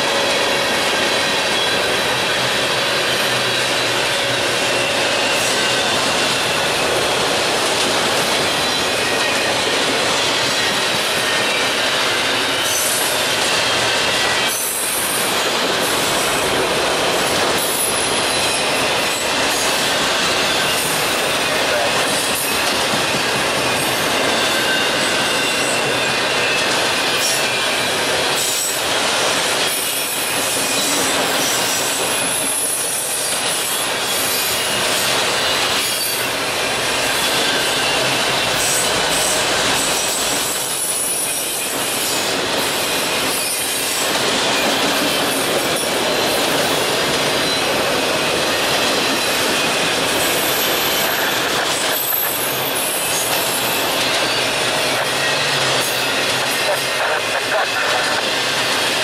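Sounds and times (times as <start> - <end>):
high wheel squeal: 0.0 - 7.2, 8.4 - 16.6, 17.6 - 46.8, 48.5 - 58.9.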